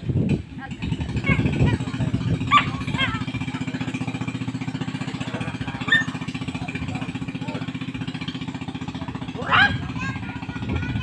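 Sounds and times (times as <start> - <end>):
small boat engine chugging: 0.0 - 11.0.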